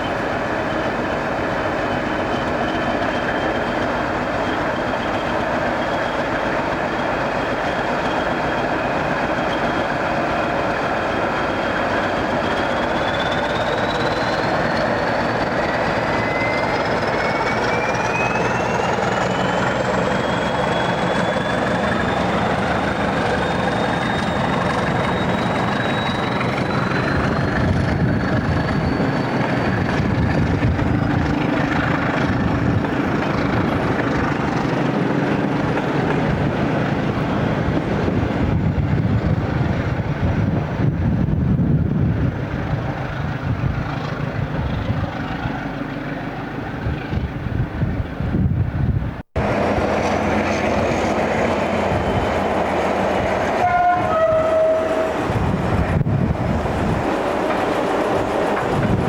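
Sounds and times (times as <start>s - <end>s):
train whine rising in pitch: 0.0s - 43.1s, 48.8s - 59.0s
train rushing and rumbling: 0.0s - 59.0s.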